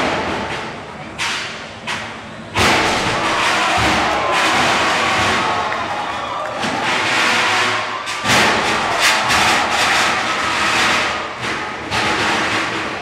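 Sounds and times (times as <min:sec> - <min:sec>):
crowd noise: 0:00.0 - 0:13.0
loud bangs: 0:02.5 - 0:13.0
combat robots clashing: 0:02.6 - 0:13.0.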